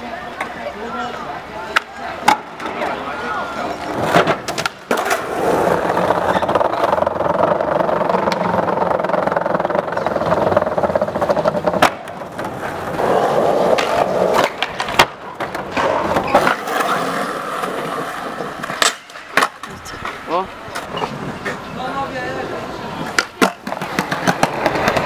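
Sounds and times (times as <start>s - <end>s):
skateboard wheels rolling on concrete: 0.0s - 25.0s
skateboard clacks: 1.7s - 21.6s, 23.0s - 25.0s.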